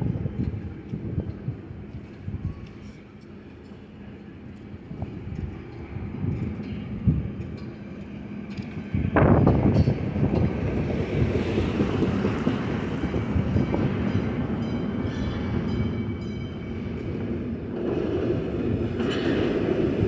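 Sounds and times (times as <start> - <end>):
light rail train running: 0.0 - 20.0.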